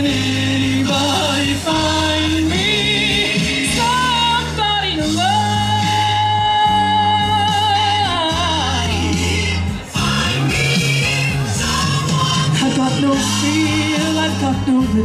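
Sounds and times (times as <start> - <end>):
person singing into microphone: 0.0 - 15.0
pop backing track: 0.0 - 15.0.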